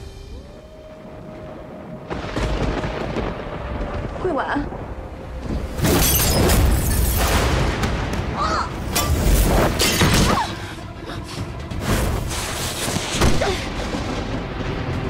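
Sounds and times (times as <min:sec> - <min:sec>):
dramatic film score: 0:00.0 - 0:15.0.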